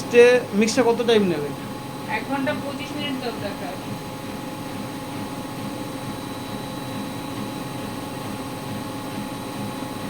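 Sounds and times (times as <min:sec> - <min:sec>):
washing machine running: 0:00.0 - 0:10.0.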